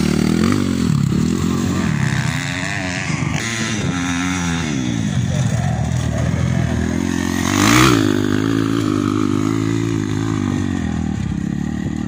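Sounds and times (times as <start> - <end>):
dirt bike engine passing: 0.0 - 12.0.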